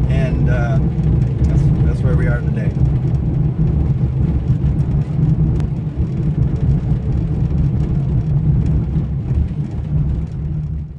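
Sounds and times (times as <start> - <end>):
car engine and tyres rumbling: 0.0 - 10.9.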